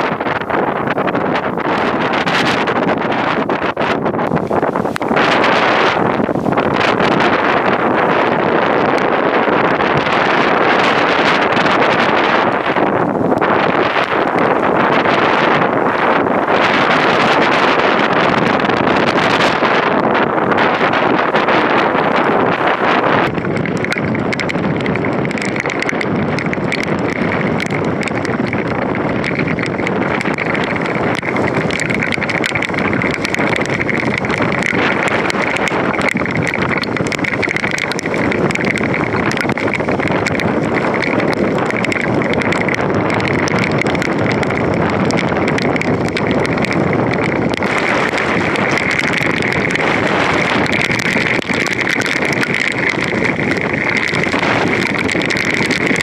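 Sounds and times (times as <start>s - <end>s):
driving rain: 0.0s - 56.0s
strong wind: 0.0s - 56.0s.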